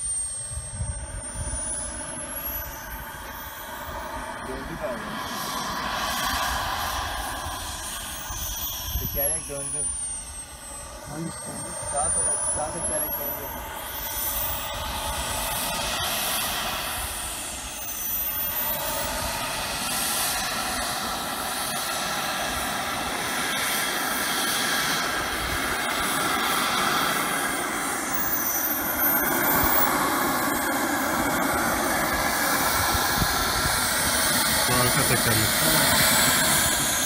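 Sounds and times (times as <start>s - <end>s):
model jet turbine hissing whine: 0.0s - 37.0s.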